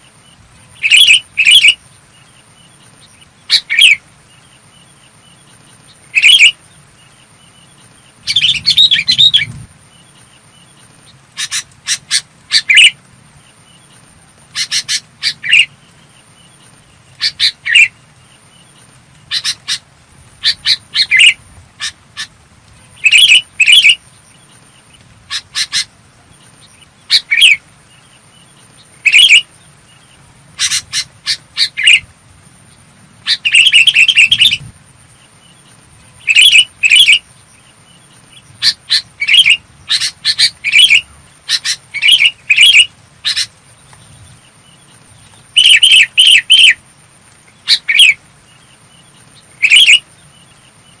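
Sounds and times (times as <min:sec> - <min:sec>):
bird chirping: 0:00.0 - 0:51.0.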